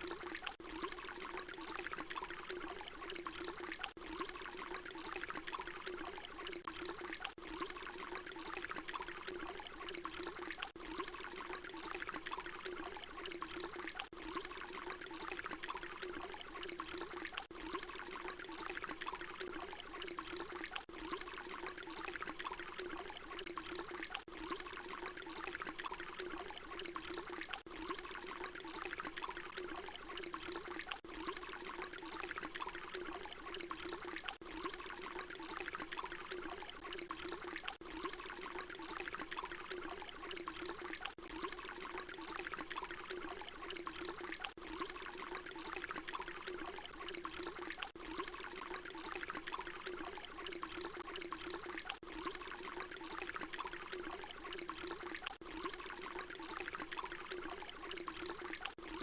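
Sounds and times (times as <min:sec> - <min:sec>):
water pouring: 0:00.0 - 0:59.0.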